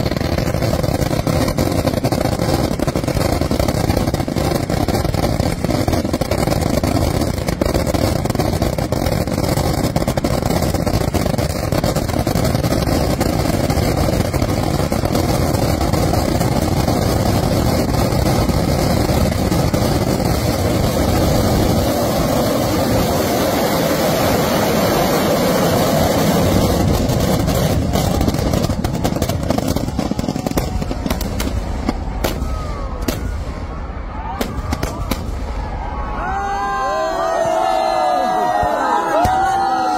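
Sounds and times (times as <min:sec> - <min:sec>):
fireworks barrage rumbling: 0:00.0 - 0:39.9.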